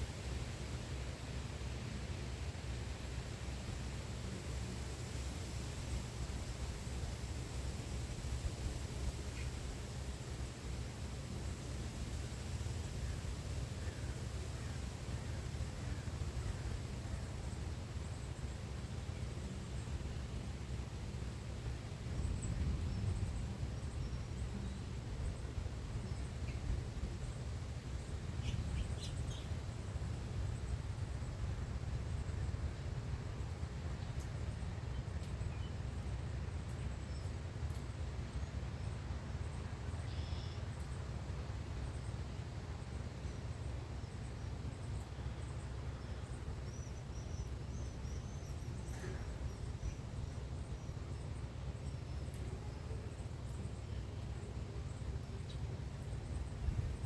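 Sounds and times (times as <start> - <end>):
low background rumble: 0.0 - 57.0
songbirds chirping: 0.1 - 57.0.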